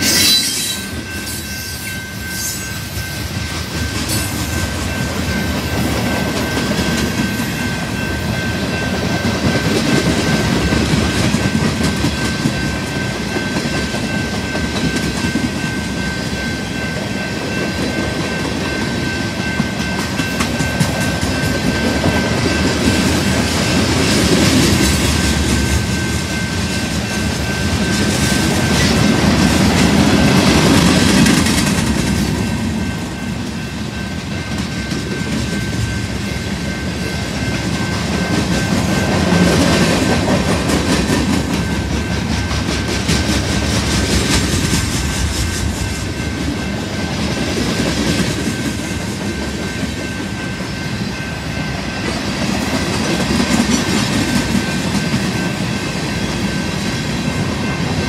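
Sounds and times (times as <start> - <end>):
train wheels rumbling over rails: 0.0 - 58.0.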